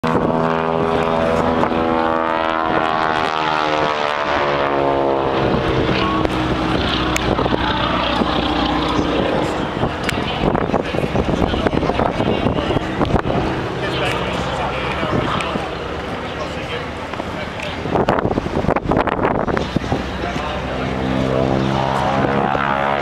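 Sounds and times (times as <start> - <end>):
propeller plane droning overhead: 0.0 - 23.0.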